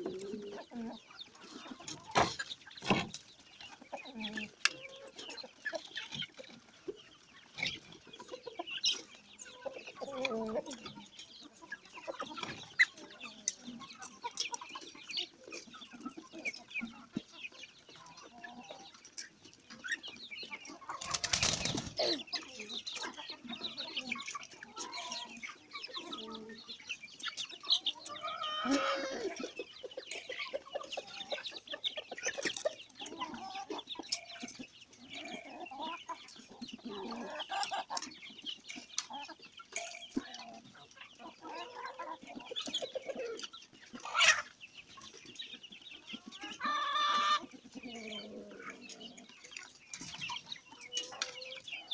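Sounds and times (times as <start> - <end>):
chickens clucking and calling: 0.0 - 51.9.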